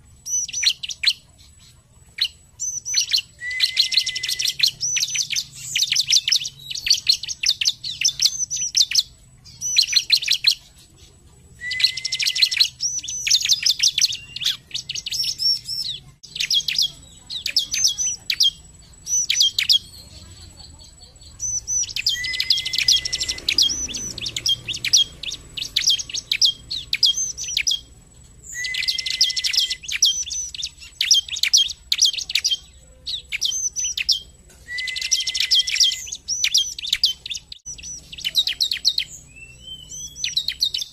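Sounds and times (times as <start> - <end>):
bird singing fast high chirps: 0.0 - 40.9.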